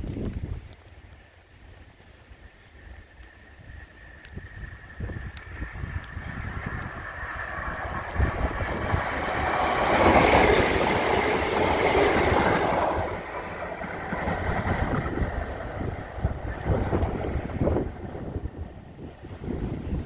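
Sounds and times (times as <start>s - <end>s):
train wheels clattering on rails: 1.6s - 20.0s.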